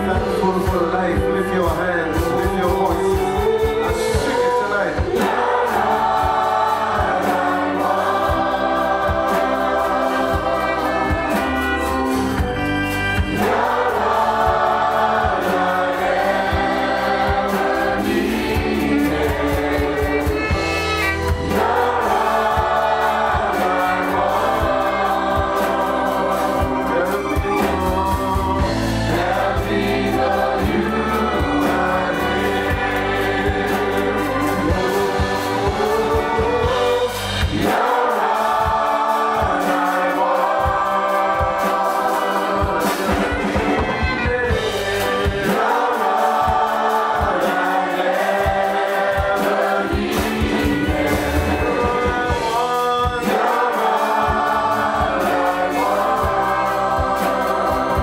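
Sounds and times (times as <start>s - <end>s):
band accompaniment: 0.0s - 58.0s
group singing worship song: 0.0s - 58.0s.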